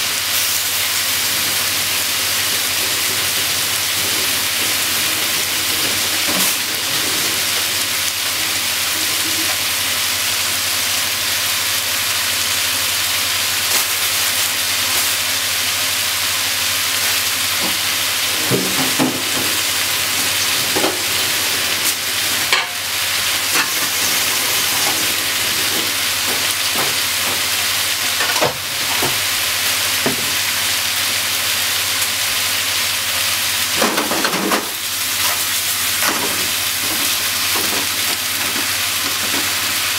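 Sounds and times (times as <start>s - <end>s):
vegetables sizzling in a frying pan: 0.0s - 39.9s.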